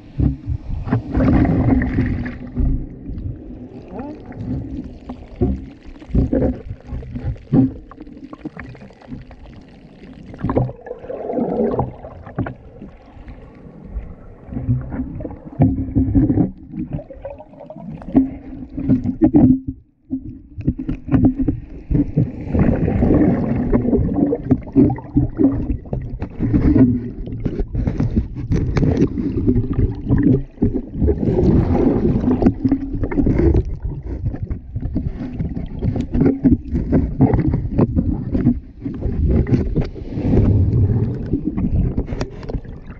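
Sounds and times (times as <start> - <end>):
underwater water sloshing: 0.0 - 42.9.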